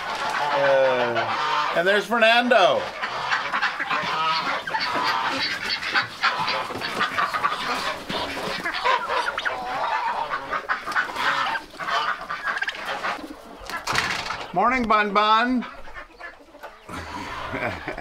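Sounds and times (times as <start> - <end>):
chickens: 0.0 - 18.0
ducks and geese honking: 0.0 - 18.0.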